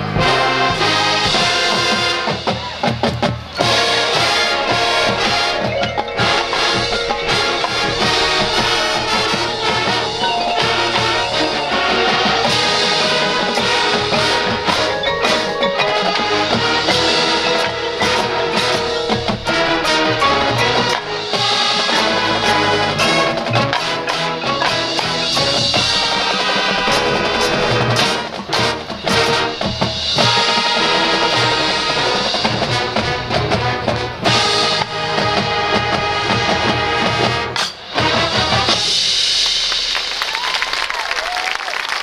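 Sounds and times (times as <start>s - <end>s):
brass: 0.0s - 40.2s
drums and percussion: 0.0s - 42.0s
marching band playing: 0.0s - 42.0s.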